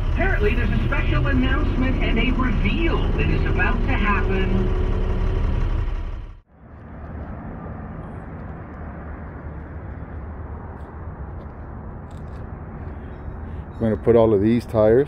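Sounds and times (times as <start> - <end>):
truck cab low rumble: 0.0 - 15.0.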